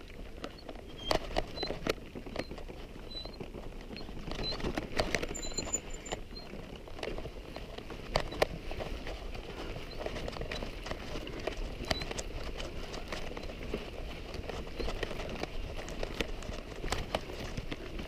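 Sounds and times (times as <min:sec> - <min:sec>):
bicycle on stony trail: 0:00.0 - 0:18.0
footsteps on stony trail: 0:00.0 - 0:18.0.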